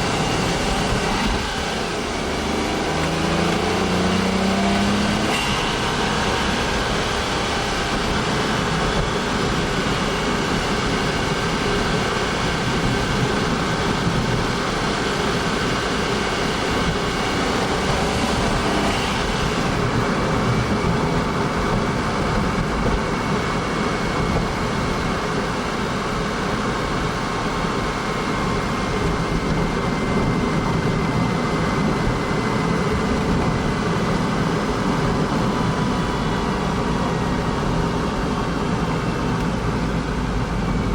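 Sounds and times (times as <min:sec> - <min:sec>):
car engine running steadily: 0:00.0 - 0:40.9.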